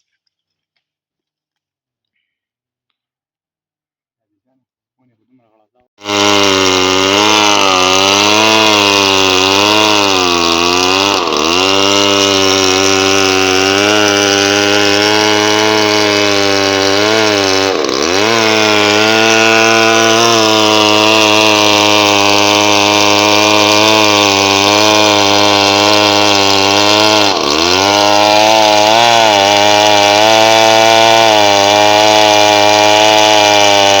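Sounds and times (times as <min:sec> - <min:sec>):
chainsaw cutting wood: 0:06.0 - 0:34.0.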